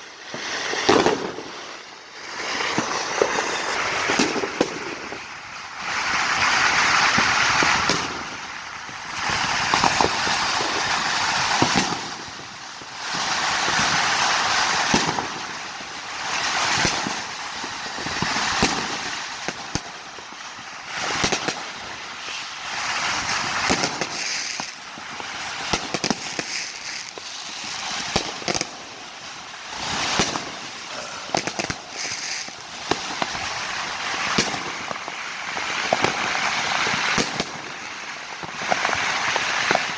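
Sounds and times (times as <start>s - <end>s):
firecracker bangs: 0.0s - 5.2s, 6.2s - 8.5s, 9.2s - 15.6s, 16.2s - 20.0s, 21.0s - 21.9s, 23.0s - 29.0s, 29.8s - 33.6s, 34.2s - 39.9s
fireworks crackling: 0.0s - 39.9s.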